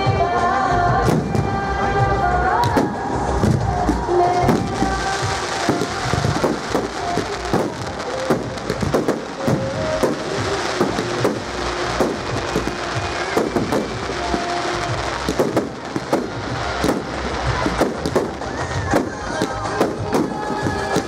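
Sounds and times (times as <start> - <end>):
music with held notes: 0.0 - 21.0
fireworks bangs and crackles: 0.9 - 21.0.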